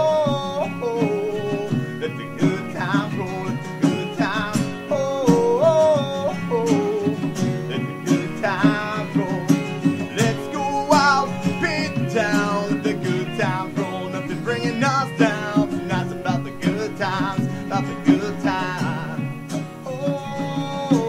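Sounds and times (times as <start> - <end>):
band playing upbeat song live: 0.0 - 21.0
guitar: 0.0 - 21.0.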